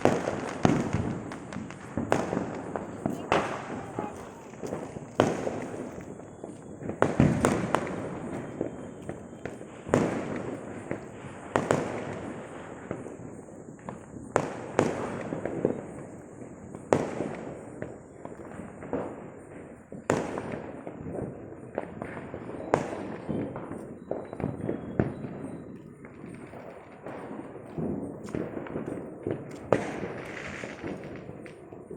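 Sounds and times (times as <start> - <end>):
firecracker bangs with echo: 0.0 - 31.9
small firecracker pops and crackles: 0.0 - 31.9.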